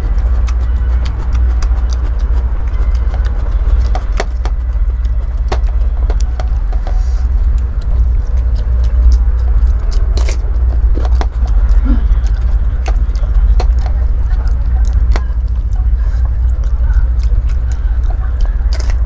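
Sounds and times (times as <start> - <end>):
crunchy chewing: 0.0 - 19.0
mouth clicks: 0.0 - 19.0
steady low rumble: 0.0 - 19.0.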